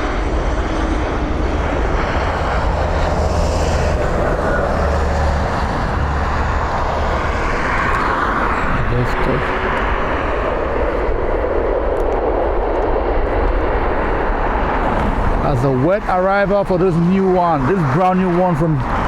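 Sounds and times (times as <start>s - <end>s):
deep low rumble: 0.0s - 16.4s
jet engine roar: 0.0s - 19.0s.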